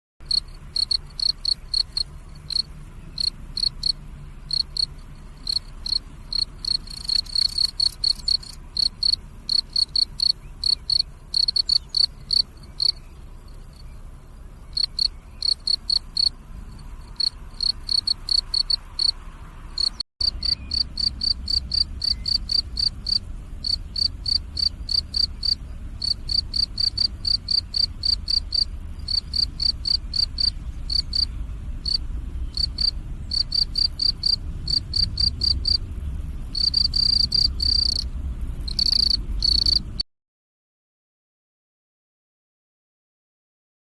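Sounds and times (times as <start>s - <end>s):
cricket chirping: 0.2s - 40.0s.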